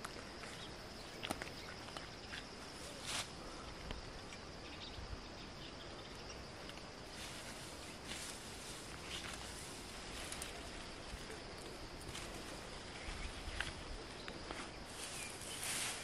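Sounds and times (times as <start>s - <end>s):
leaves rustling and brushing: 0.0s - 4.5s, 6.4s - 16.0s
high insect drone: 0.0s - 16.0s.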